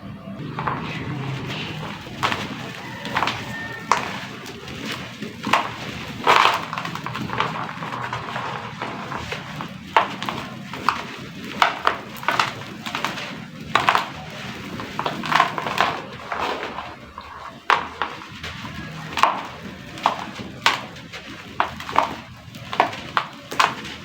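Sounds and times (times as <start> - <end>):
cement chunks crumbling into water: 0.4 - 24.0.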